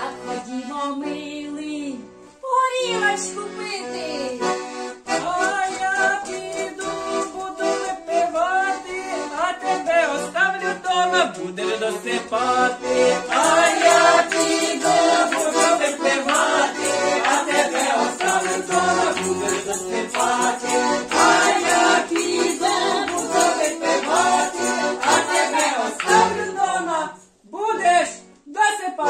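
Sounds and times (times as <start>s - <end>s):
button accordion: 0.0s - 27.0s
group singing folk song: 4.4s - 28.2s.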